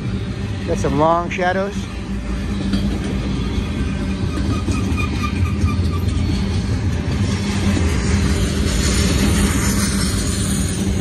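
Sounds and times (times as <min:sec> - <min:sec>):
freight train rolling past: 0:00.0 - 0:11.0
wheels rumbling on rails: 0:00.0 - 0:11.0.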